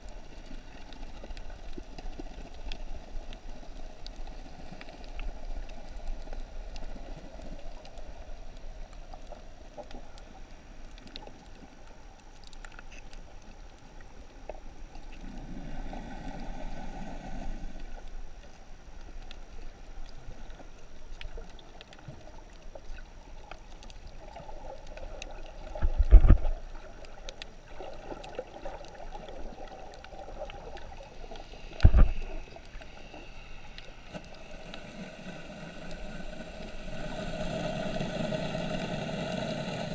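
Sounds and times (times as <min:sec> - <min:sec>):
muffled underwater water wash: 0:00.0 - 0:39.9.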